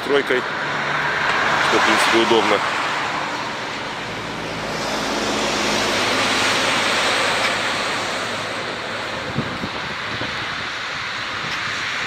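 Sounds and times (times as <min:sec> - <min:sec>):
vehicle passing on street: 0:00.1 - 0:12.0.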